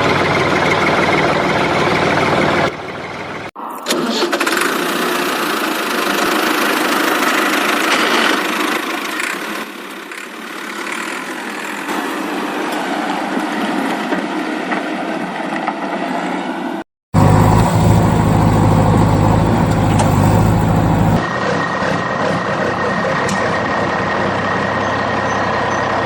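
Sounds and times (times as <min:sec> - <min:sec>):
engine-like running noise: 0:00.0 - 0:26.0.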